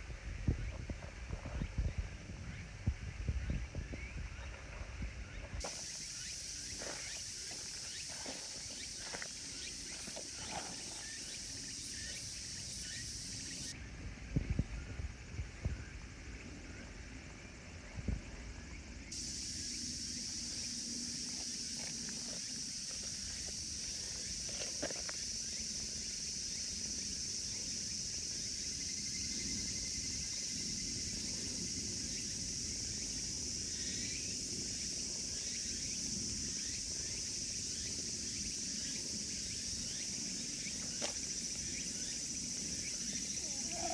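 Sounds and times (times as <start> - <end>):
insects chirping chorus: 0.0 - 43.9.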